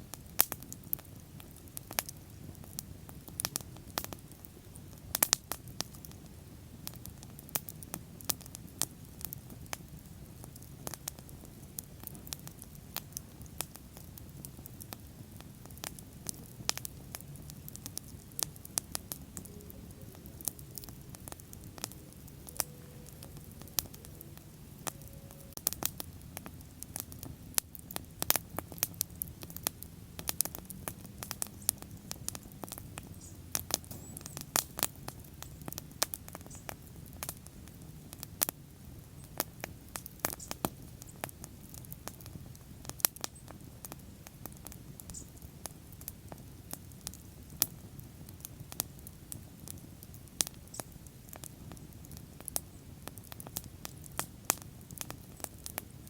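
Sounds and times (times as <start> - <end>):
bonfire crackling and popping: 0.0 - 56.0
low rumble of flames: 0.0 - 56.0.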